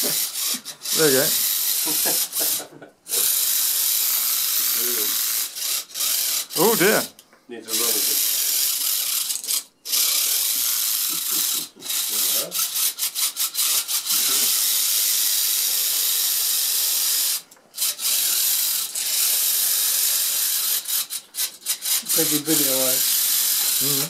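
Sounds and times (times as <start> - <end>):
electric motors and gears whirring: 0.0 - 7.1, 7.8 - 24.0.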